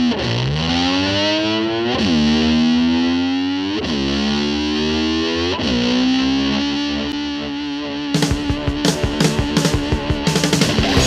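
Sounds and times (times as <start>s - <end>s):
distorted slide guitar swooping: 0.0s - 11.0s.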